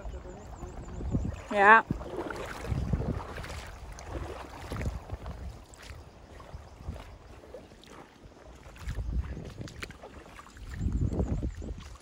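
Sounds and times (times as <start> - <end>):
shallow river rushing: 0.0 - 12.0
wind buffeting microphone: 0.0 - 12.0.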